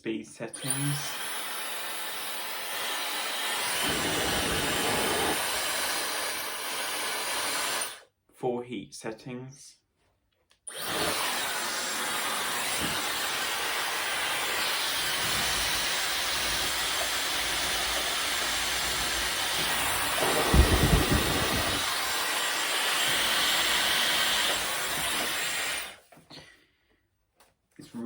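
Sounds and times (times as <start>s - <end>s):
hair dryer whining air rush: 0.6s - 8.0s, 10.7s - 26.0s.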